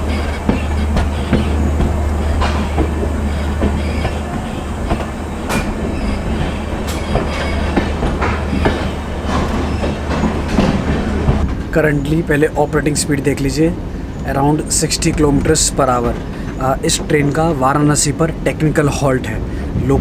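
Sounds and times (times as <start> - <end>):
train rumble inside coach: 0.0 - 20.0
wheels clacking over rails: 0.0 - 20.0.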